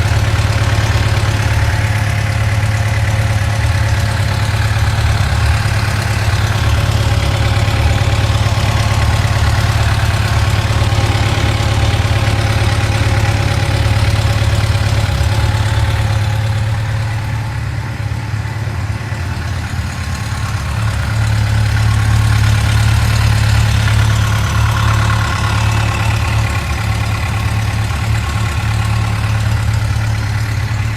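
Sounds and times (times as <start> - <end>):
motorcycle engine idling: 0.0 - 30.9
ticking in engine idle: 0.0 - 30.9.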